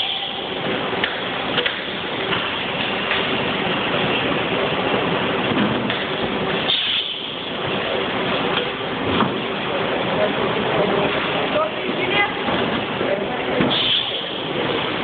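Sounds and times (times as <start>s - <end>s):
loud machine noise: 0.0s - 15.0s.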